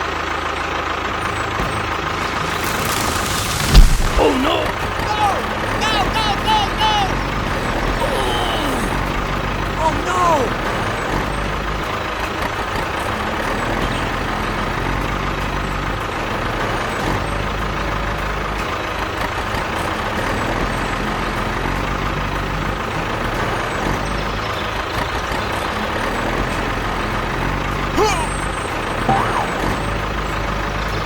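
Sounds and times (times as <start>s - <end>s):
miniature vehicle engine drone: 0.0s - 31.0s.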